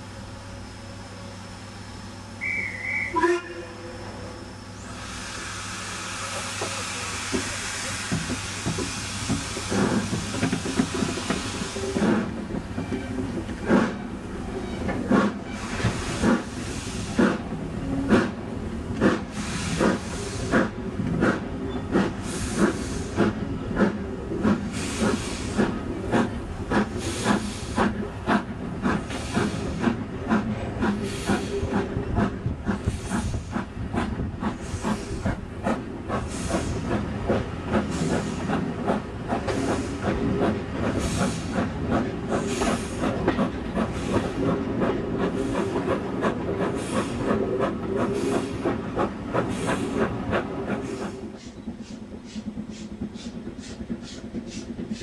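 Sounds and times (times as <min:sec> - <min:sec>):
steam locomotive chuffing: 0:00.0 - 0:55.0
steam hissing: 0:02.4 - 0:12.8, 0:13.4 - 0:14.2, 0:15.0 - 0:55.0.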